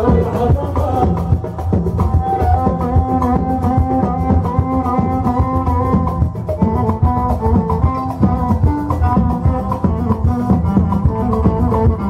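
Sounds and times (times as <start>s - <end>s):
congas: 0.0s - 12.0s
drum kit beat: 0.0s - 12.0s
violin melody: 2.2s - 12.0s.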